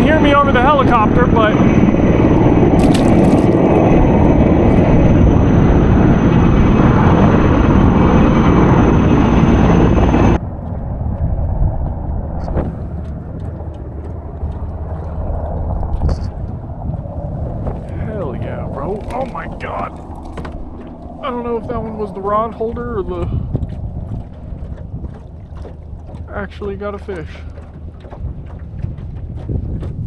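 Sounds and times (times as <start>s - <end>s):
wind noise on microphone: 0.0s - 26.3s, 27.2s - 30.0s
helicopter rotor and turbine whine: 3.5s - 28.2s.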